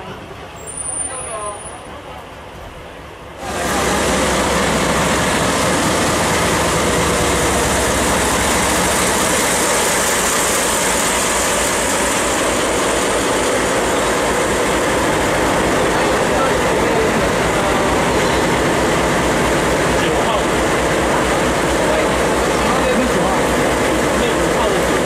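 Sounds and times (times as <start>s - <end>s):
diesel engine idling: 3.4s - 25.0s.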